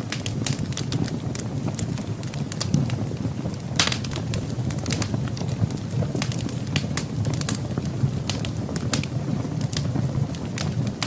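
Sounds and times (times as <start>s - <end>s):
fire crackling and popping: 0.0s - 11.0s
wood fire rumbling: 0.0s - 11.0s.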